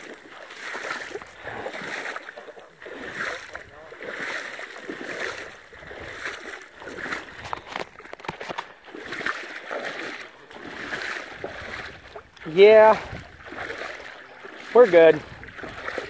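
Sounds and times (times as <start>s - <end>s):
marsh water splashing: 0.0s - 16.0s.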